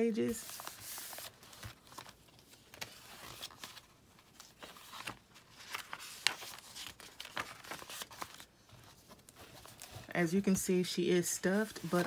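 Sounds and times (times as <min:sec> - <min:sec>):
paper pages turning and rustling: 0:00.0 - 0:12.0.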